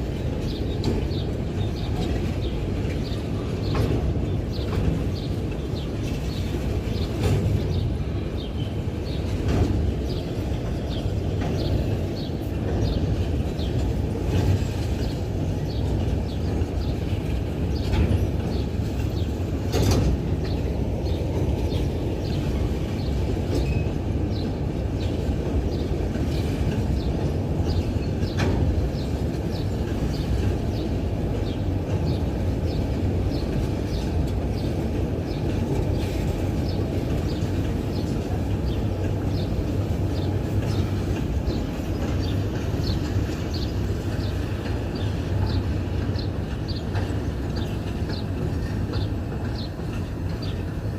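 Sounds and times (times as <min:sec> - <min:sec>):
freight train rumble: 0:00.0 - 0:50.9
wheels clicking over rail: 0:09.0 - 0:50.9.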